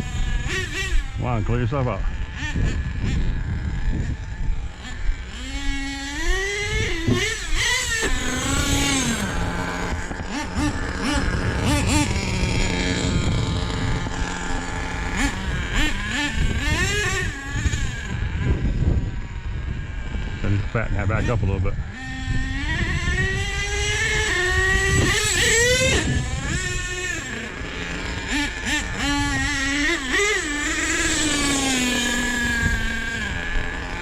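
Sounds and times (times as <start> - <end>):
small engine revving: 0.0 - 34.0.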